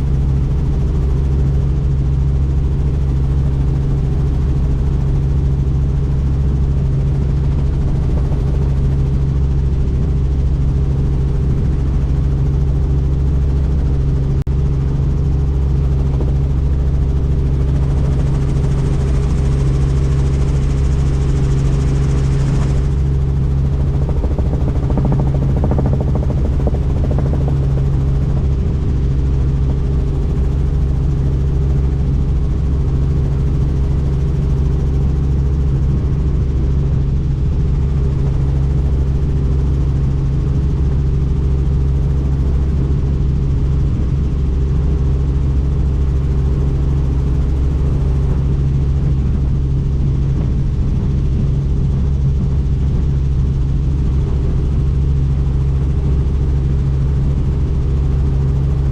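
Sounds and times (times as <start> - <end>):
helicopter rotor drone: 0.0 - 58.9.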